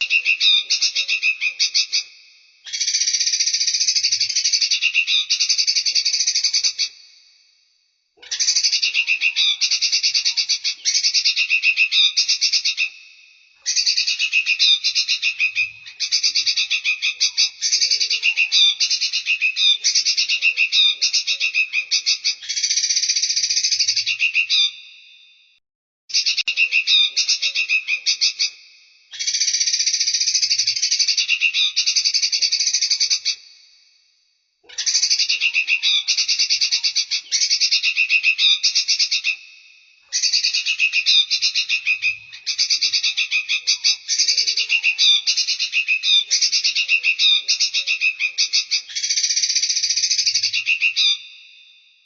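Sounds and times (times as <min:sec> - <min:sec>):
songbird trilling: 0:00.0 - 0:02.1, 0:02.7 - 0:07.0, 0:08.2 - 0:13.0, 0:13.6 - 0:24.9, 0:26.1 - 0:33.4, 0:34.7 - 0:51.4.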